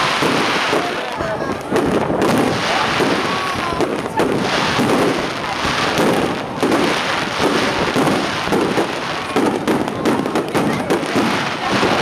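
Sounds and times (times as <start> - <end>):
fireworks bursts and crackles: 0.0 - 12.0.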